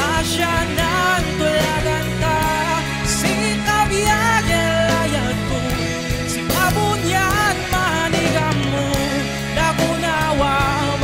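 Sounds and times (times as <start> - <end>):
band accompaniment with steady beats: 0.0 - 11.0
person singing: 0.0 - 11.0.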